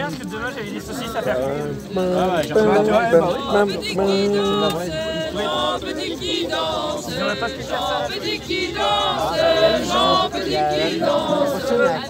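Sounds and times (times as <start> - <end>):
crowd talking or singing: 0.0 - 12.0.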